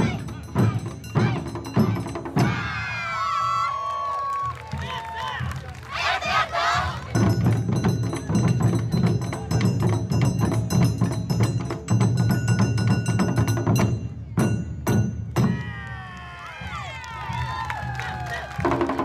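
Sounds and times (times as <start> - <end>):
taiko drums beating: 0.0 - 3.6, 6.1 - 16.0, 16.6 - 19.0.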